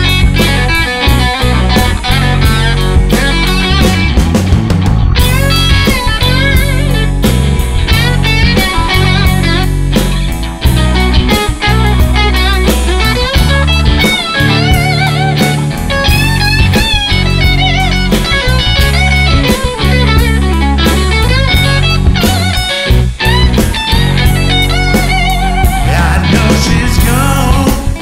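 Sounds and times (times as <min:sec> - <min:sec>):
blues-rock lead guitar with vibrato: 0:00.0 - 0:28.0
heavy low end bass: 0:00.0 - 0:28.0
steady drum beat: 0:00.0 - 0:28.0.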